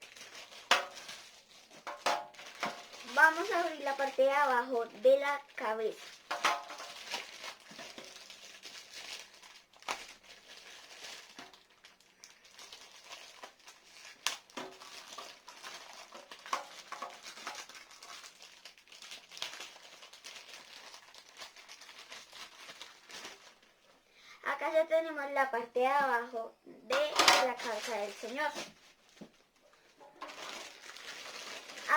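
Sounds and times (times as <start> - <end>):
plastic packaging crinkling: 0.0 - 23.9, 26.9 - 31.9.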